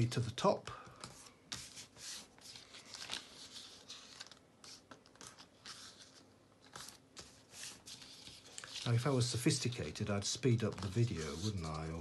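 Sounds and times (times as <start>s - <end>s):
paper being folded and creased: 1.1s - 12.0s.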